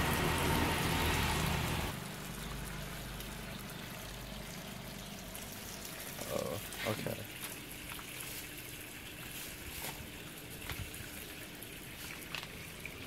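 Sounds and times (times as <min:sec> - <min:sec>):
water splashing into washing machine: 0:00.0 - 0:13.0.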